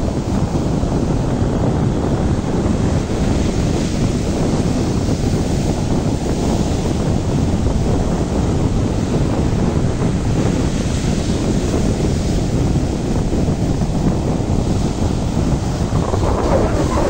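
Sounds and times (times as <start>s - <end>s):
surf breaking on a beach: 0.0s - 17.0s
wind buffeting microphone: 0.0s - 17.0s.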